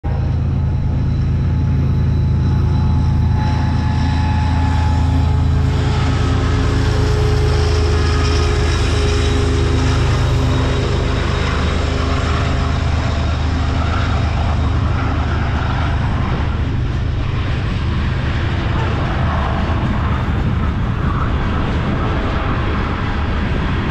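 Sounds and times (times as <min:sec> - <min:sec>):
diesel locomotive rumble: 0:00.0 - 0:23.9.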